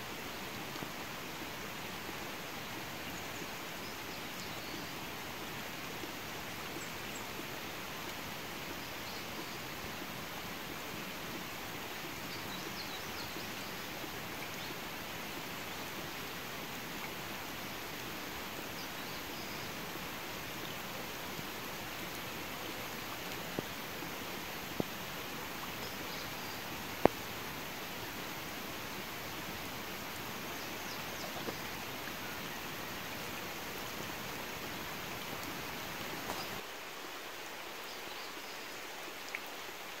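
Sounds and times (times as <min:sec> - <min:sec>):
rain falling on water: 0:00.0 - 0:40.0.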